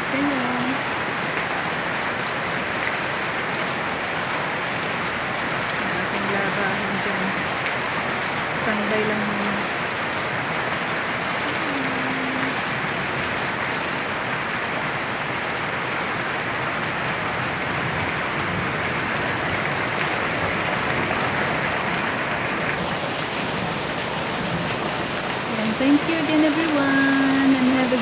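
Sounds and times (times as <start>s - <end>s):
rain pouring: 0.0s - 28.0s.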